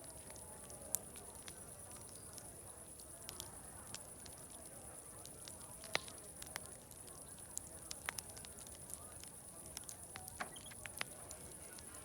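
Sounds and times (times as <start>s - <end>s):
murmur of distant voices: 0.0s - 12.0s
wood fire crackling and popping: 0.0s - 12.0s.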